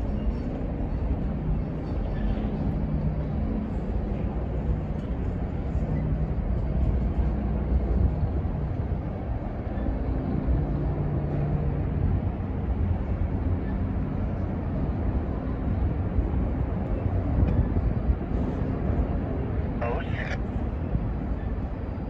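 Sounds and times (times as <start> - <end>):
freight train wheels rumbling on rail: 0.0 - 19.7.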